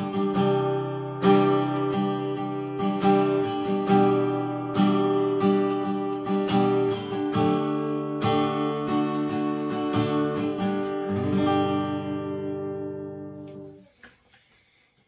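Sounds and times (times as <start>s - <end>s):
acoustic guitar strummed chords: 0.0s - 13.9s.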